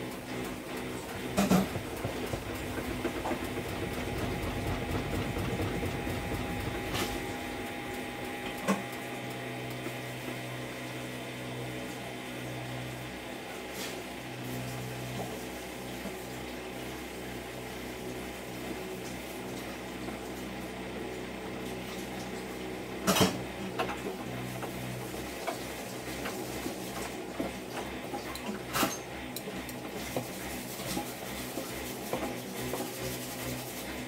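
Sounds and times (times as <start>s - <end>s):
washing machine running: 0.0s - 34.0s.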